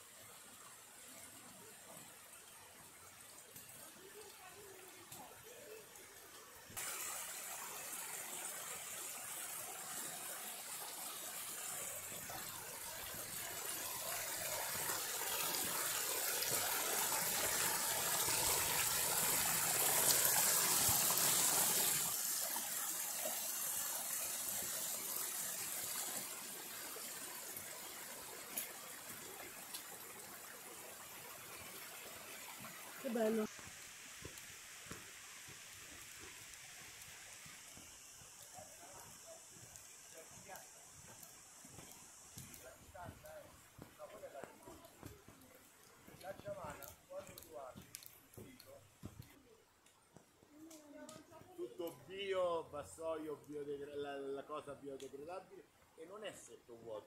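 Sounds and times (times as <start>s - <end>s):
stream rushing over rocks: 0.0s - 49.3s.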